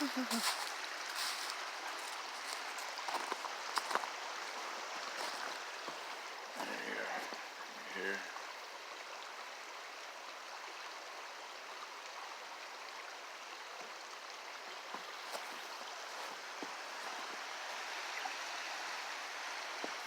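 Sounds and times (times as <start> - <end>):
river water rushing: 0.0 - 10.5, 11.1 - 20.0.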